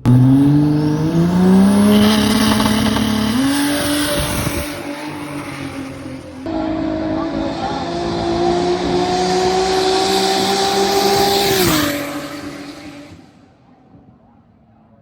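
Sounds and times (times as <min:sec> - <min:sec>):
racing car engine at full throttle: 0:00.0 - 0:13.8.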